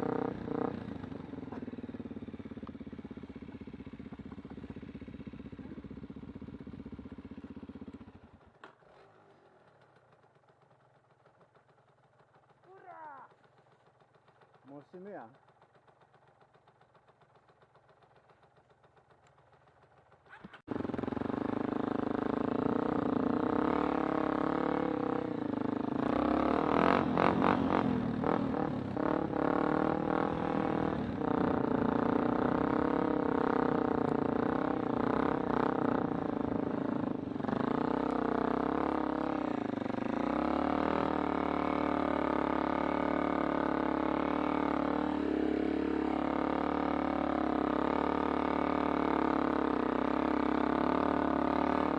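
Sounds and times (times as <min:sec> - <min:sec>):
motorcycle engine starting and running: 0:00.0 - 0:51.9.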